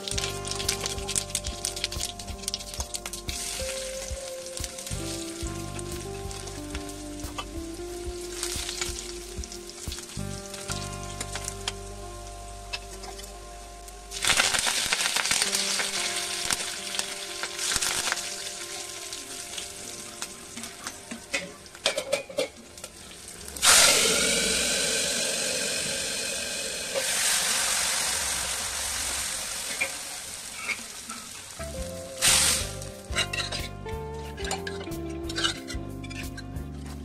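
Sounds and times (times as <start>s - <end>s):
loud burst of sizzling: 0.0s - 21.8s, 22.6s - 33.7s
leaves sizzling in hot oil: 0.0s - 36.2s.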